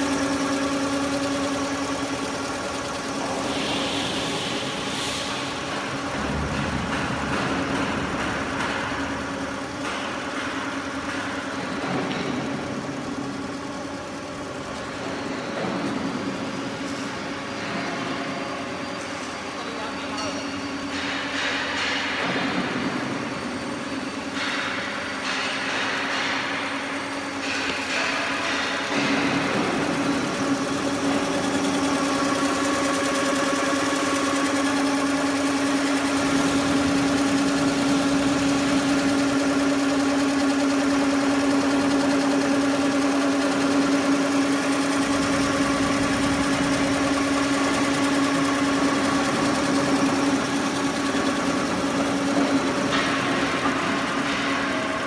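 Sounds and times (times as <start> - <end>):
quilting machine humming: 0.0 - 18.9, 23.0 - 55.0.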